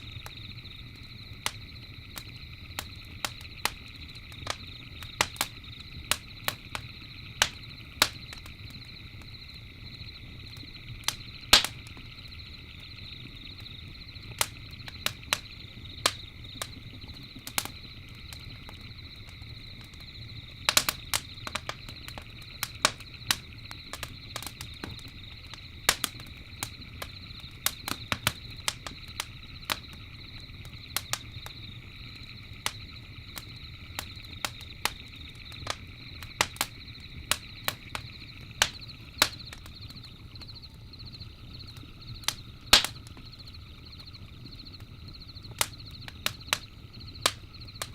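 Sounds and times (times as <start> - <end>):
campfire crackling and popping: 0.0 - 47.9
crickets chirping: 0.0 - 47.9.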